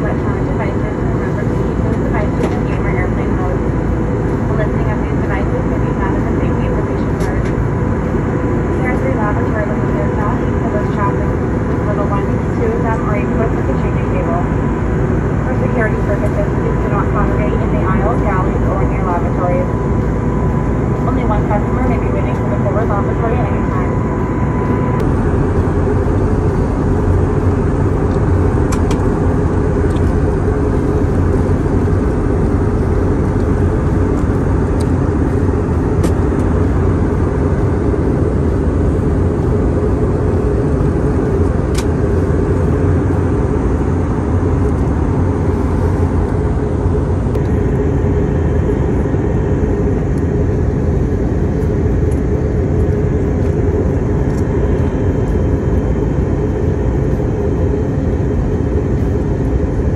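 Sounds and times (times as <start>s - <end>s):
jet airliner cabin rumble: 0.0s - 59.9s.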